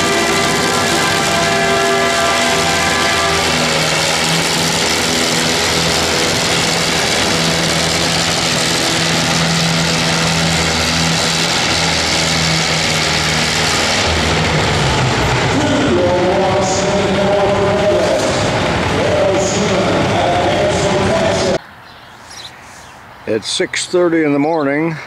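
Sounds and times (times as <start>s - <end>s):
tractor engine under load: 0.0s - 21.6s.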